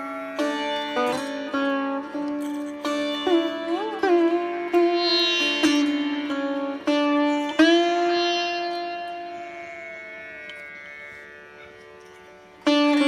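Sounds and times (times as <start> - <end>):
plucked string instrument music: 0.0 - 13.0.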